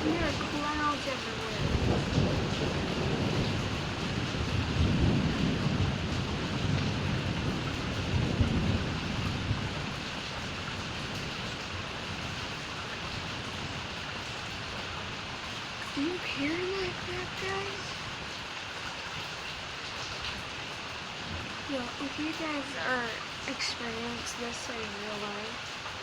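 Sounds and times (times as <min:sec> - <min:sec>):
thunder rumbling: 0:00.0 - 0:18.5, 0:19.2 - 0:25.6
steady rain hiss: 0:00.0 - 0:26.0.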